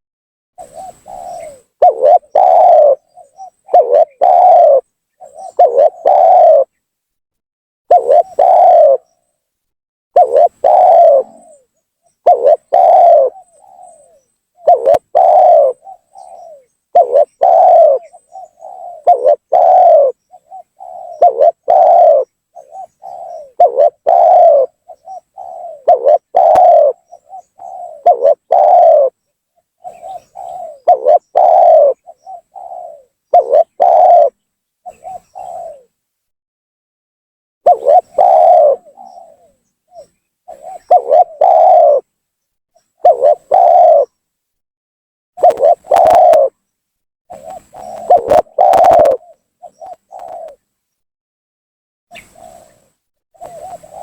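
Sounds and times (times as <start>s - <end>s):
dove cooing: 0.6s - 6.8s, 7.9s - 9.2s, 10.2s - 36.0s, 37.7s - 42.1s, 43.0s - 44.2s, 45.4s - 46.6s, 47.3s - 50.6s, 52.1s - 54.0s.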